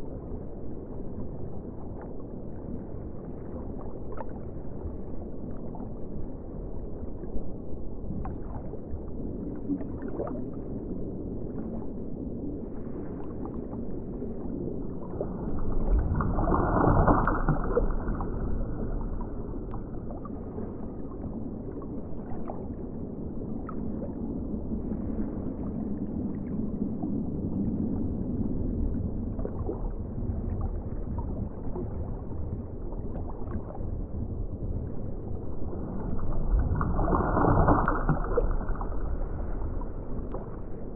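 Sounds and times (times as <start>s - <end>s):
muffled underwater rush of water: 0.0s - 40.9s.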